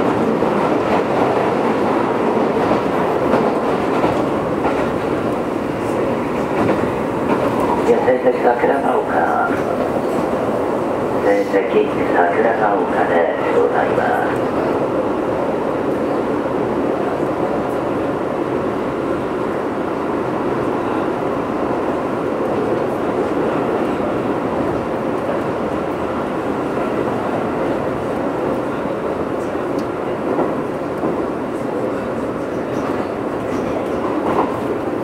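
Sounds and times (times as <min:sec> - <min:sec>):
train wheels and traction rumble: 0:00.0 - 0:35.0.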